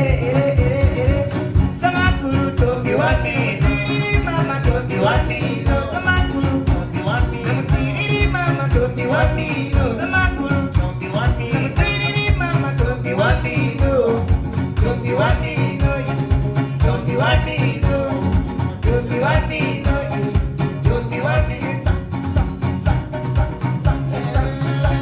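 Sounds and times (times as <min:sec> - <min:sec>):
hand percussion beat: 0:00.0 - 0:25.0
homemade instruments: 0:00.0 - 0:25.0
men singing: 0:00.0 - 0:25.0.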